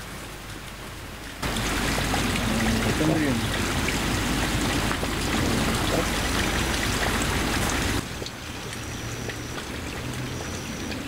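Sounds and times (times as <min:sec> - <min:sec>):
water hiss: 0:01.4 - 0:11.0.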